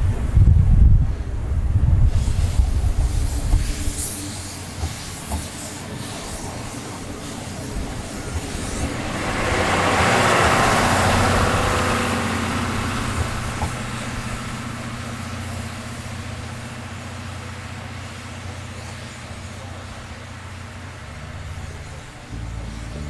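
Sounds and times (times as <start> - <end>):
steam train passing: 0.0 - 23.0.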